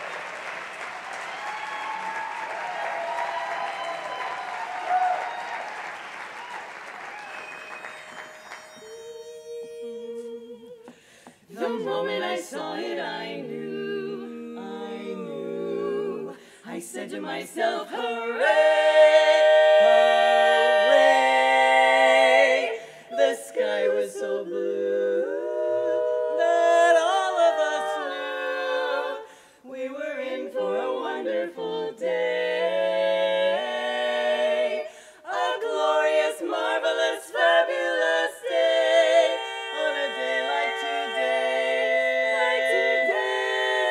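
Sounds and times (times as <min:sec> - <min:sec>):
women singing a cappella harmony: 0:08.8 - 0:43.9.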